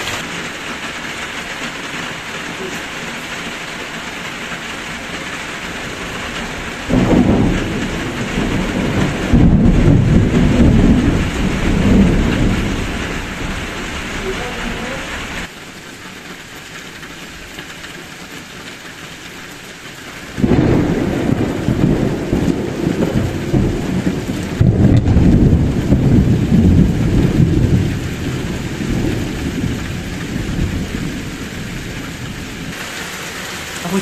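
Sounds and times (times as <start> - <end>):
thunder rumbling: 0.0 - 15.5, 20.4 - 32.8
heavy rain: 0.0 - 34.0.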